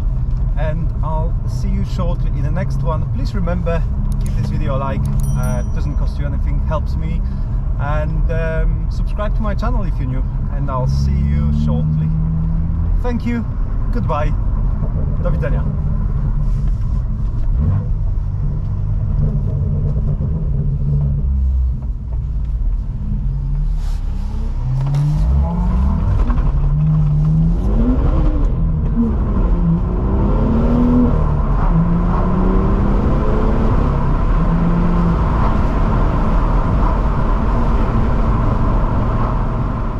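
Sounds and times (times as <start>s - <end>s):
car engine droning in cabin: 0.0s - 39.9s.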